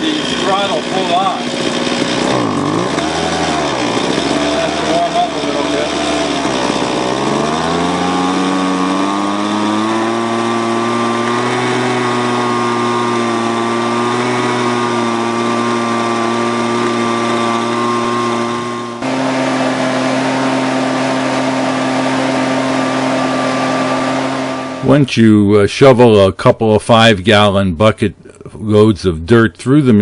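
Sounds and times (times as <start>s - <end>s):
leaf blower engine running: 0.0s - 25.1s.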